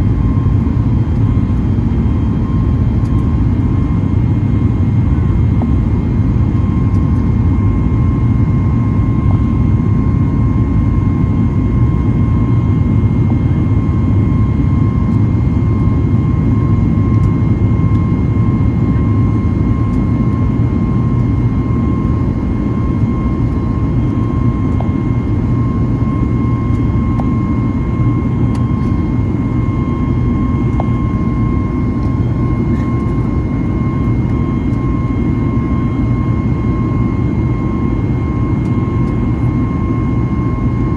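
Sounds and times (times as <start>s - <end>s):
jet engines low roar in cabin: 0.0s - 40.9s
steady engine whine: 0.0s - 40.9s.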